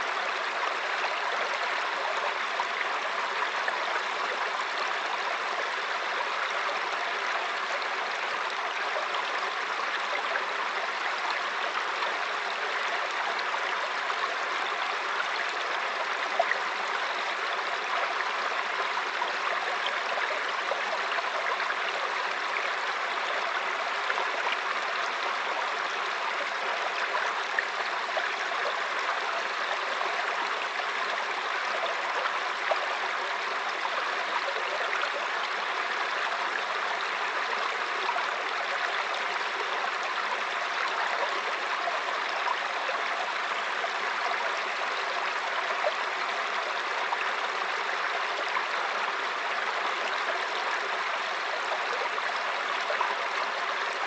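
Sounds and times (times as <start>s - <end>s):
stream babbling over rocks: 0.0s - 54.0s.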